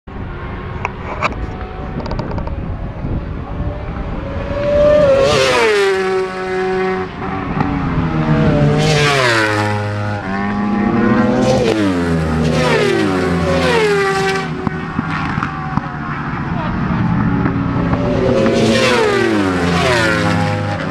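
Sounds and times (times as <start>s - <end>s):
racing motorcycles passing at high revs: 0.1s - 20.9s.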